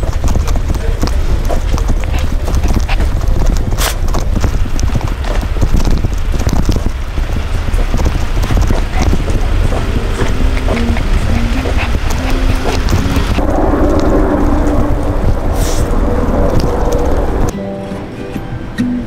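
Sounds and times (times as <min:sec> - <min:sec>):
stroller wheels rattling on pavement: 0:00.0 - 0:17.5.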